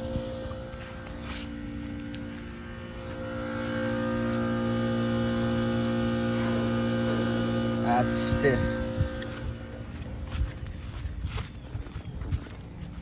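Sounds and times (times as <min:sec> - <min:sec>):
faint higher whine: 0:00.0 - 0:10.8
air conditioner electrical hum: 0:00.0 - 0:11.9.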